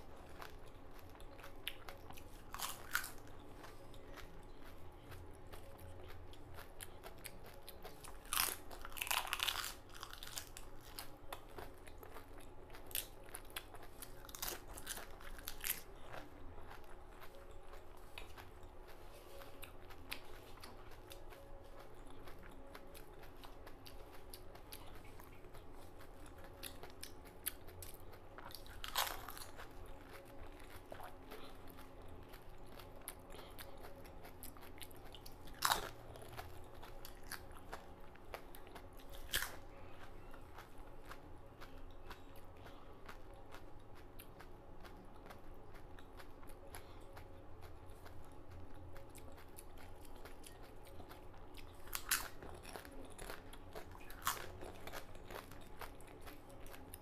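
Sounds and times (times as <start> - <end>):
soft chewing: 0.0 - 57.0.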